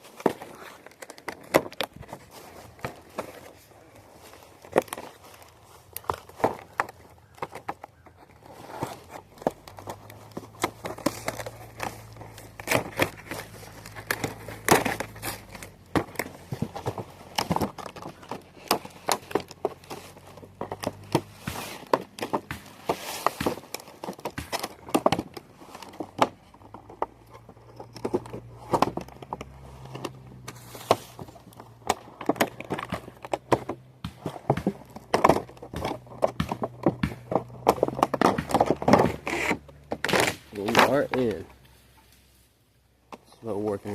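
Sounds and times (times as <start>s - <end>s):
packaging crinkling and crackling: 0.0s - 41.4s.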